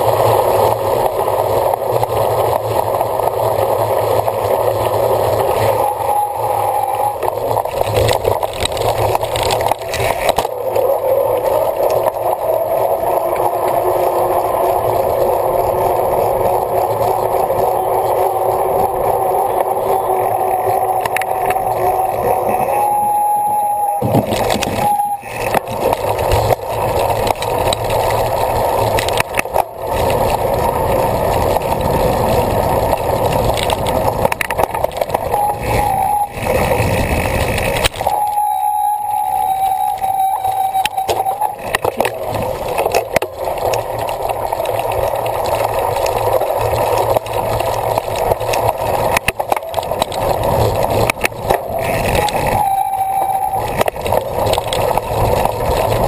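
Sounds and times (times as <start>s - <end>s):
whining tone: 0.0s - 56.0s
wind noise: 3.5s - 56.0s.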